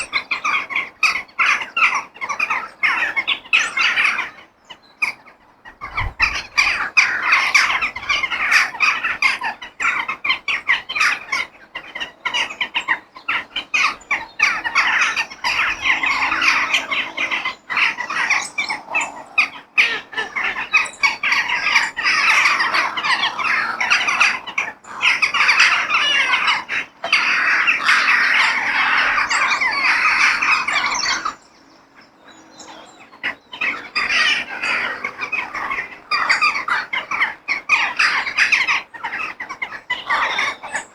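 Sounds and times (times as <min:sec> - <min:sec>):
crows cawing: 0:00.0 - 0:31.4, 0:32.7 - 0:40.9.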